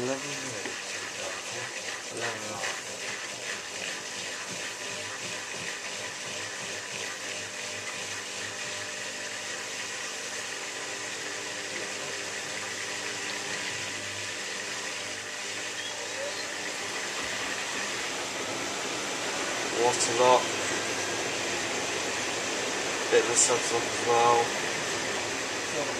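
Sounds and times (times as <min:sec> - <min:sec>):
washing machine drain pump: 0:00.0 - 0:25.9
water draining and sloshing: 0:00.0 - 0:25.9.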